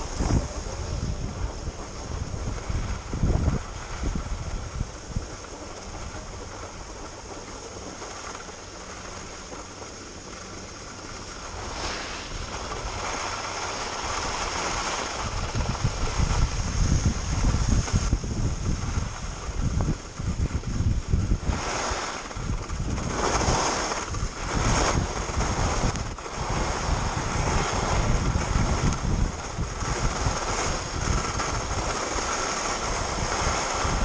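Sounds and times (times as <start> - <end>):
skis hissing on snow: 0.0 - 34.0
wind buffeting microphone: 0.0 - 34.0.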